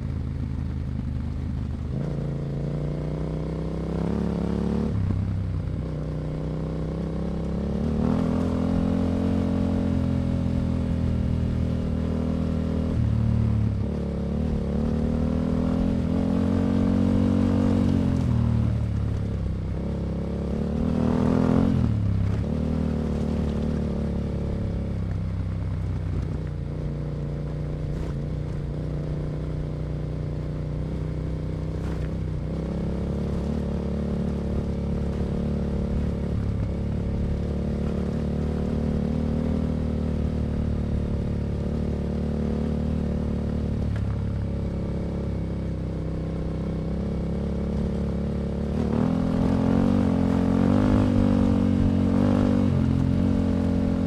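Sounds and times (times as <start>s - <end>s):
motorcycle engine revving: 1.5s - 54.0s.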